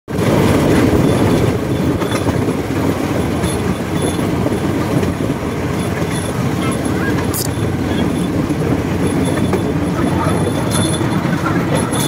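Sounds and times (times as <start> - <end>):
rail car wheels rumbling on rails: 0.1 - 12.0.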